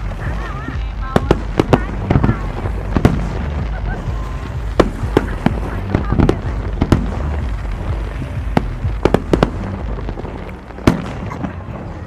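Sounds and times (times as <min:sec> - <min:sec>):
continuous low rumble: 0:00.0 - 0:12.0
fireworks bursting bangs: 0:00.0 - 0:12.0.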